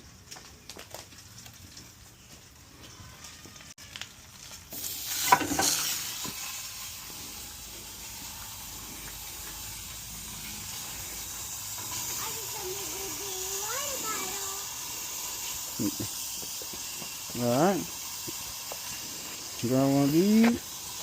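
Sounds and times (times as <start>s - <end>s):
griddle sizzling: 0.0s - 21.0s.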